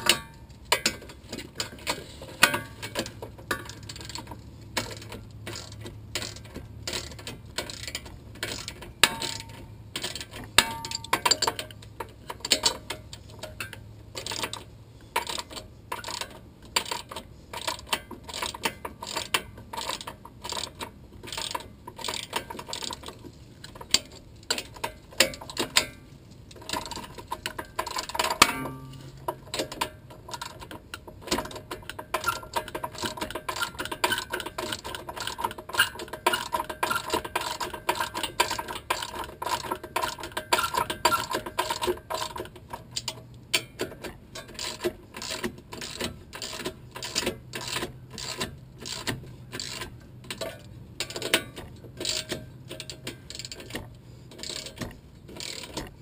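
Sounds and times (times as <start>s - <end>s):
hand ratchet clicking: 0.0s - 25.9s, 26.5s - 56.0s.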